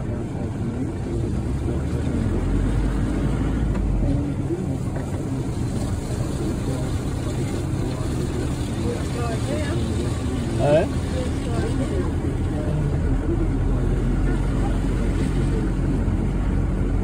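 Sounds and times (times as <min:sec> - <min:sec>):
vehicle engine and tyre rumble: 0:00.0 - 0:17.0.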